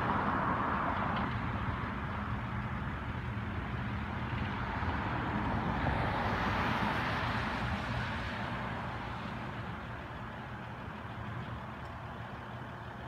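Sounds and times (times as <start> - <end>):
low engine hum of traffic: 0.0 - 13.0.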